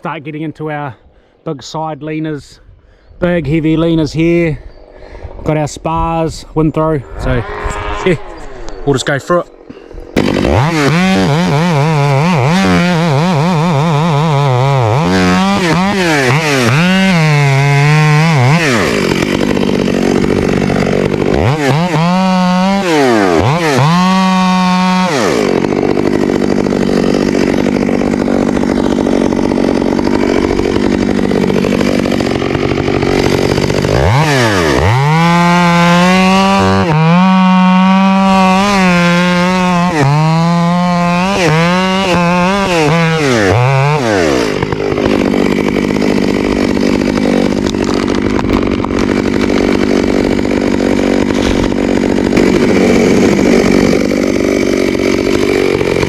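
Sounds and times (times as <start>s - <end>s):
chainsaw revving and cutting: 7.0s - 56.0s.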